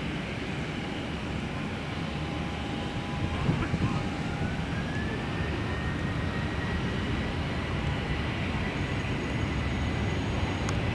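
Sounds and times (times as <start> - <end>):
jet engines rumbling with whine: 0.0 - 10.9.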